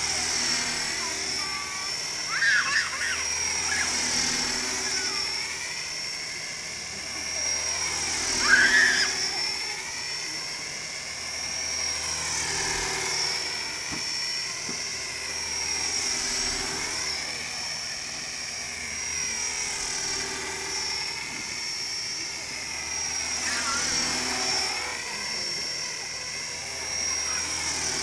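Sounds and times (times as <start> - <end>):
model helicopter rotor whine: 0.0 - 28.0.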